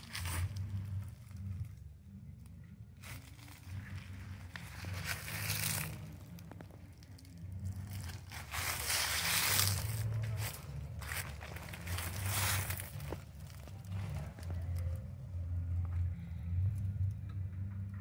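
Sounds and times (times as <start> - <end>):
rustling: 0.0 - 1.9, 3.0 - 16.8
low hum: 0.0 - 18.0.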